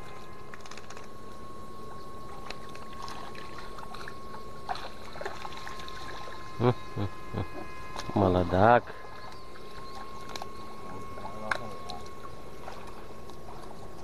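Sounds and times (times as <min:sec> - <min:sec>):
electric fishing shocker whine: 0:00.0 - 0:14.0.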